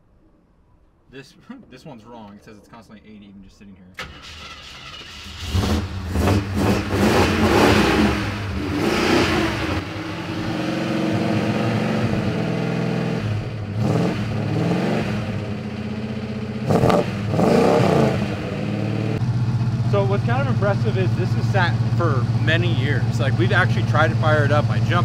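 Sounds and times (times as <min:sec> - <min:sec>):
engine revving and idling: 0:04.0 - 0:25.0.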